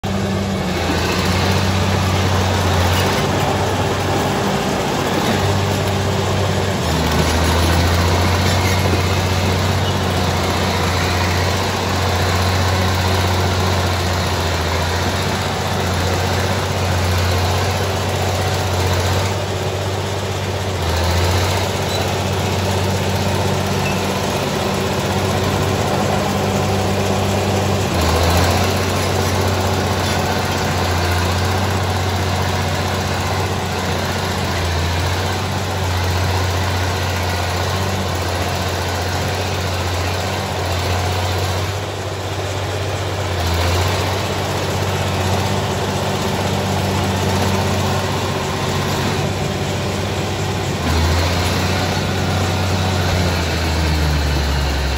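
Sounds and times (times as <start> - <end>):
bulldozer diesel engine: 0.0 - 54.9.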